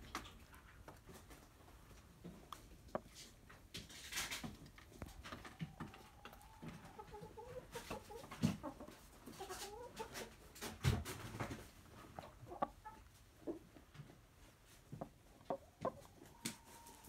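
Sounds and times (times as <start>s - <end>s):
hens clucking: 0.1s - 17.0s.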